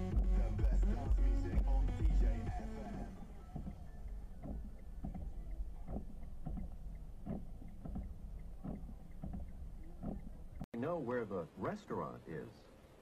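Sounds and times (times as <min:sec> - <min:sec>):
low rumble of car: 0:00.0 - 0:10.7
windshield wipers swishing: 0:00.0 - 0:10.7.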